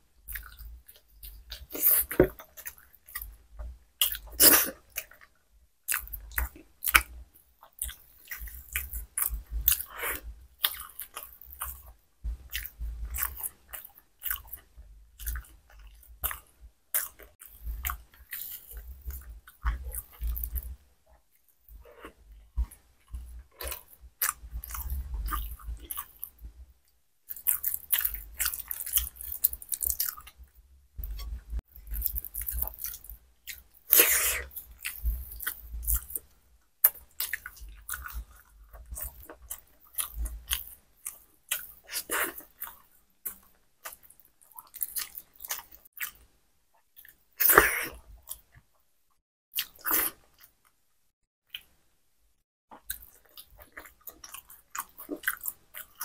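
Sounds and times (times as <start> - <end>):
chewing and mouth smacking: 0.3 - 3.4, 4.0 - 20.7, 21.3 - 26.4, 27.3 - 30.4, 31.0 - 46.2, 52.7 - 56.0.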